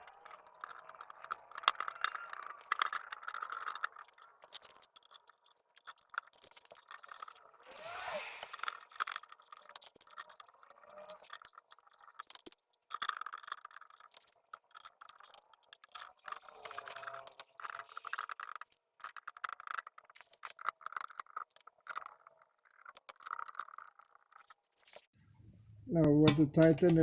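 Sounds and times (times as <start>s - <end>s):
bolts and tools clicking: 0.0s - 24.6s.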